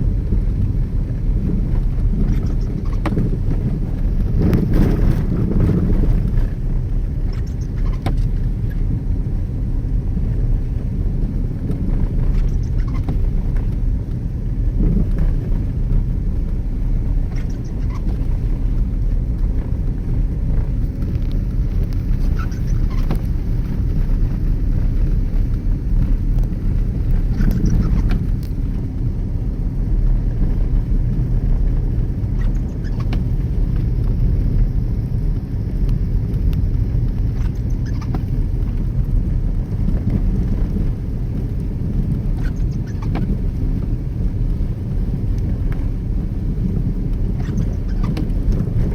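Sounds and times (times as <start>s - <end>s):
car engine and tyres rumbling: 0.0s - 48.9s.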